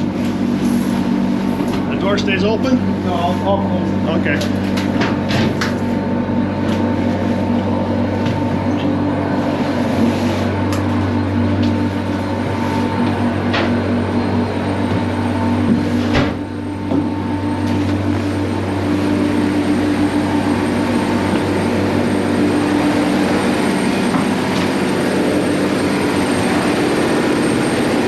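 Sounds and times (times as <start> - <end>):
ship machinery droning: 0.0 - 28.0.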